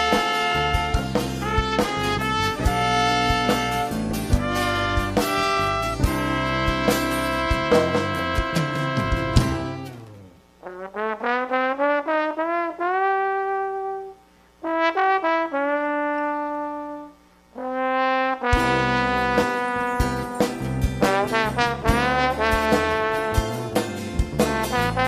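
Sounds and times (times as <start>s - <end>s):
brass band playing: 0.0s - 25.0s
solo trombone melody: 0.0s - 25.0s.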